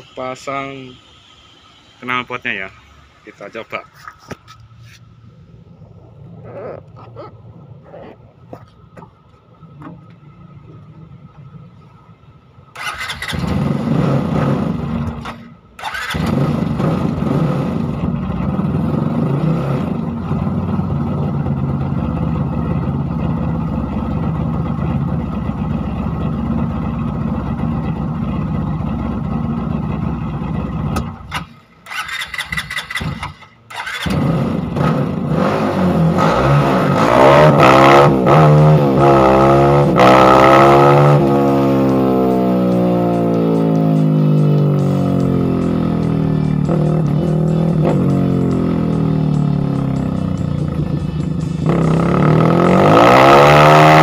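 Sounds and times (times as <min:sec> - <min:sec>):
motorcycle engine running: 0:04.8 - 0:36.2, 0:36.9 - 0:54.0.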